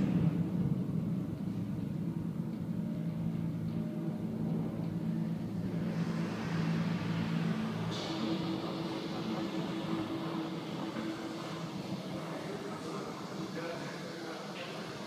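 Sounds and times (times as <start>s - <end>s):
low ambient drone: 0.0s - 15.0s.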